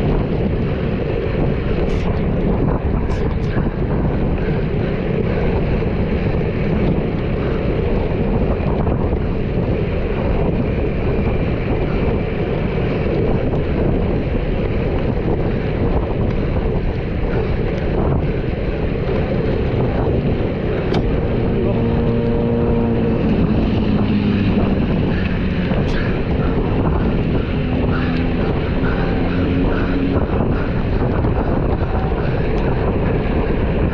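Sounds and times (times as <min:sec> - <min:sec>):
low rumble: 0:00.0 - 0:33.9
wind buffeting microphone: 0:00.0 - 0:33.9.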